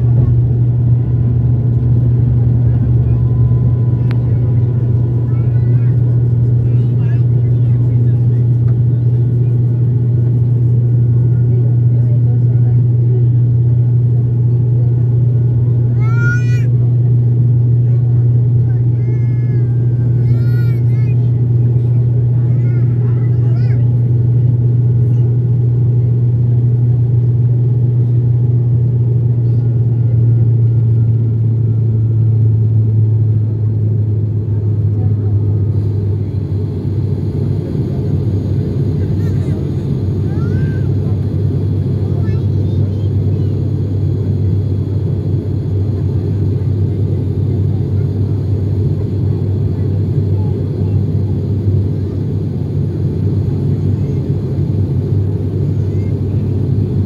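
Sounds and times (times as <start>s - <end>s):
turboprop cabin drone: 0.0s - 57.0s.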